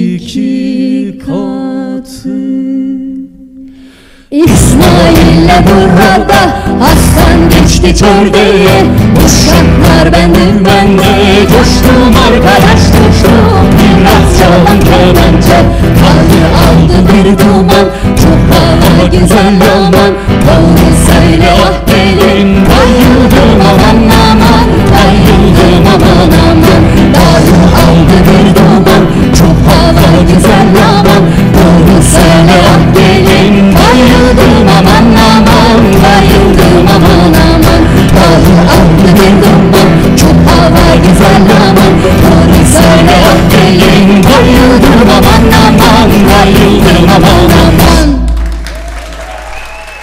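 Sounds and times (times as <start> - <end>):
person singing: 0.0 - 48.4
steady drum beat: 4.4 - 48.2
folk band playing: 4.5 - 48.4.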